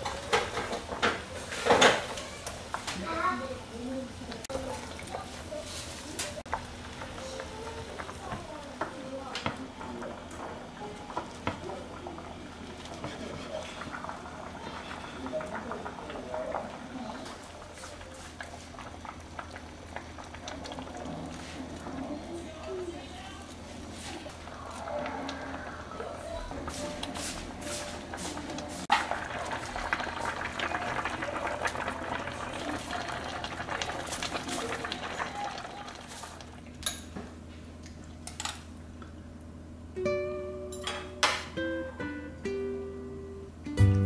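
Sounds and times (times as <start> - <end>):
stew bubbling in a pot: 0.0 - 38.3.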